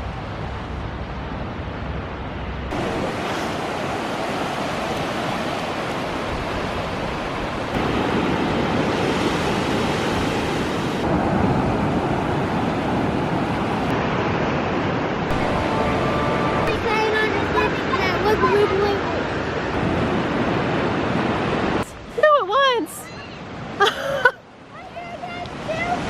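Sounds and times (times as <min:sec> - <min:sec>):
wind buffeting microphone: 0:00.0 - 0:23.8
ocean surf washing ashore: 0:00.0 - 0:26.0.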